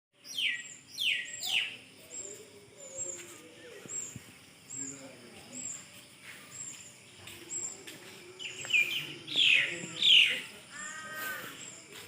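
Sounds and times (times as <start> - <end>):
birds chirping: 0.2 - 12.0
downward-sweeping bird calls: 0.2 - 12.0.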